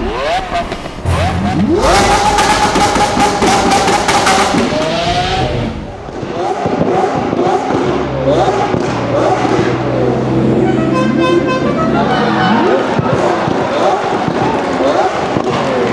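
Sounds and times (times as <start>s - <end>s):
car engine revving: 0.0s - 15.9s
exhaust crackling: 0.0s - 15.9s.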